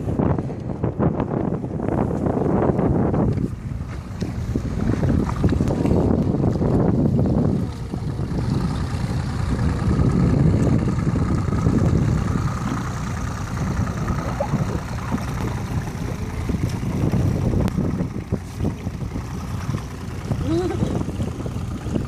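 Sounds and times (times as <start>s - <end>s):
motorboat engine rumbling: 0.0s - 22.0s.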